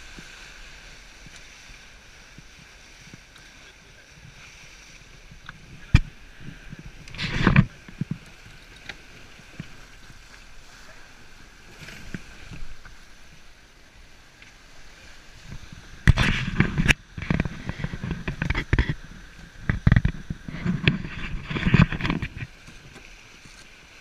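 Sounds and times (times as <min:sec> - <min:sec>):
water rushing along hull: 0:00.0 - 0:24.0
waves splashing against boat: 0:00.0 - 0:24.0.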